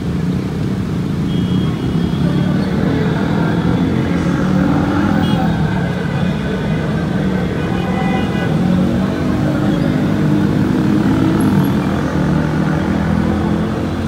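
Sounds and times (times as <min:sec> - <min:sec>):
motorbike and scooter traffic drone: 0:00.0 - 0:14.0.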